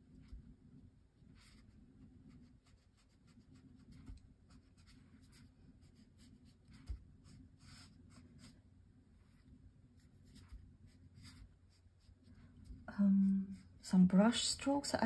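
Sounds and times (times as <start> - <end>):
low steady hum: 0.0 - 15.0
brush swishing across paper: 1.2 - 14.5.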